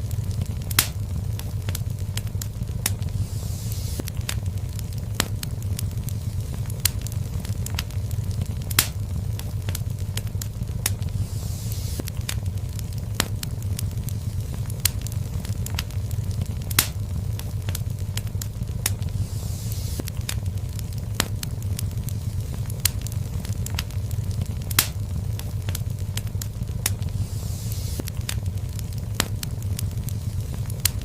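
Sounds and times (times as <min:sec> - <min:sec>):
fire crackles and pops: 0:00.0 - 0:31.0
fire flames rumbling: 0:00.0 - 0:31.0.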